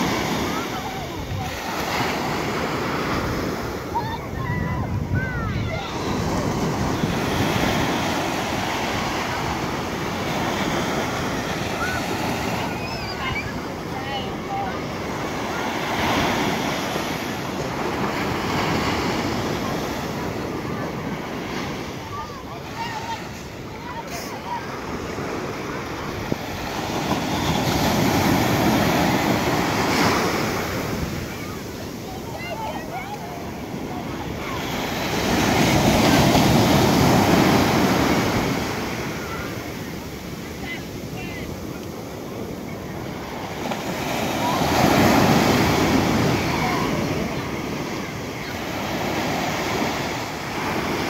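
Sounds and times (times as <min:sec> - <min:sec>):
wave washing up a beach: 0:00.0 - 0:51.0.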